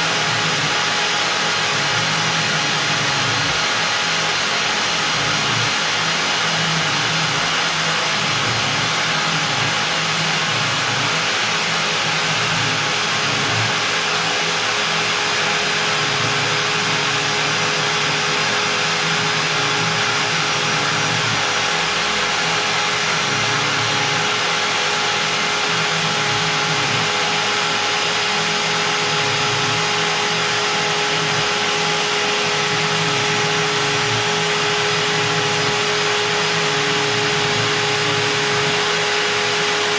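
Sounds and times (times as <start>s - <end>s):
router cutting wood: 0.0s - 39.9s.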